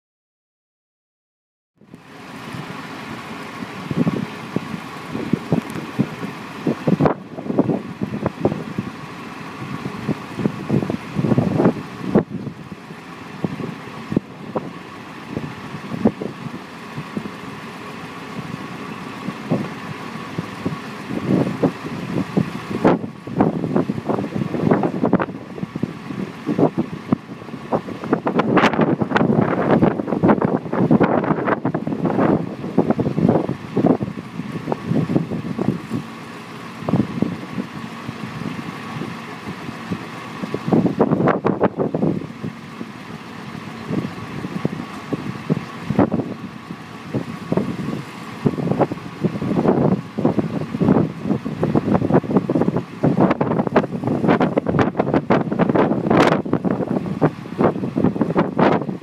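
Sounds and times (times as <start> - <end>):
truck engine running: 1.8 - 59.0
wind gusts on microphone: 2.3 - 59.0.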